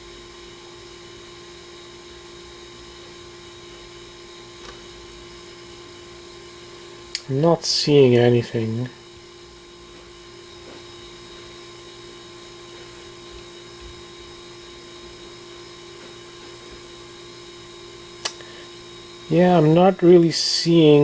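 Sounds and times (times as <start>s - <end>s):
steady hum with tone: 0.0s - 21.0s.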